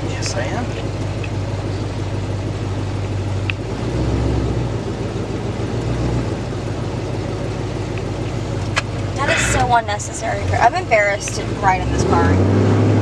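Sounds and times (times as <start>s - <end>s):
low exhaust rumble: 0.0s - 13.0s.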